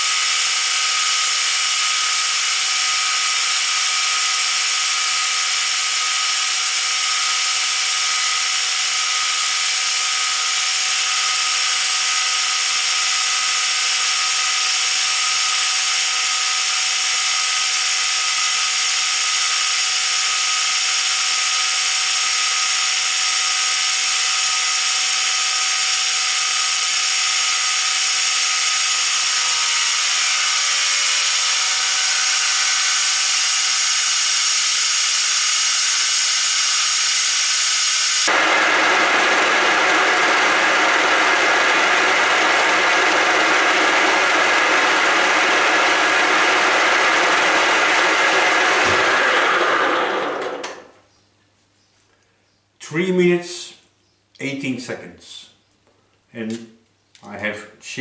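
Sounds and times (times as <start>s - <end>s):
milling machine cutting metal: 0.0s - 50.8s.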